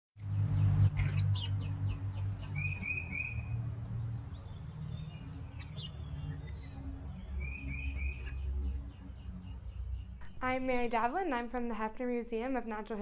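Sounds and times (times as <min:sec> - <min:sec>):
songbirds chirping: 0:00.2 - 0:12.9.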